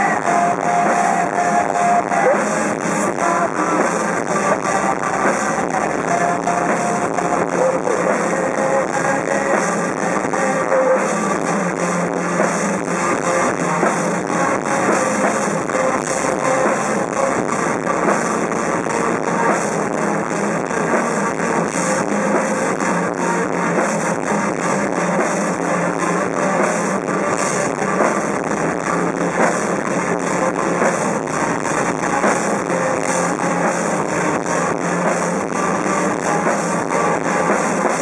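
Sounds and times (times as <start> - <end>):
rock band playing live: 0.0 - 38.0
steady drum beat: 0.0 - 38.0.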